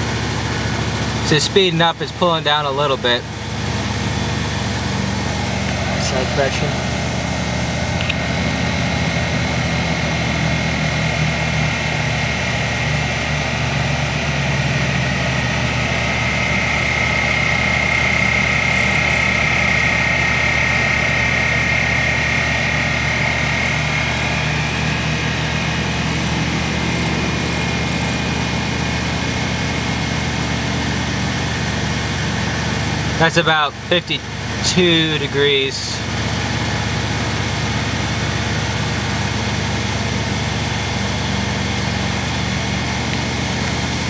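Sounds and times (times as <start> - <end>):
heat pump compressor hum: 0.0 - 44.0
high compressor whine: 0.0 - 44.0.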